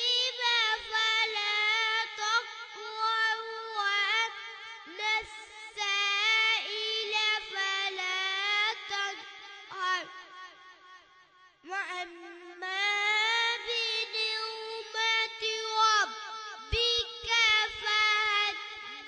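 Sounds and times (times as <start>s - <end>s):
boy singing into a microphone: 0.0s - 19.0s.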